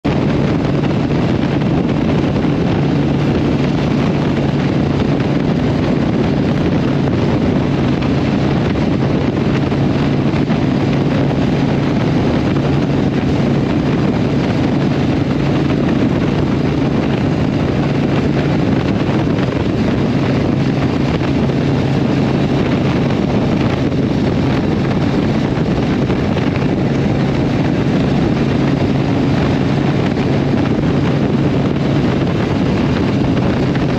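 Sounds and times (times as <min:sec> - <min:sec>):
motorcycle engine cruising: 0:00.0 - 0:33.9
wind rushing over microphone: 0:00.0 - 0:33.9.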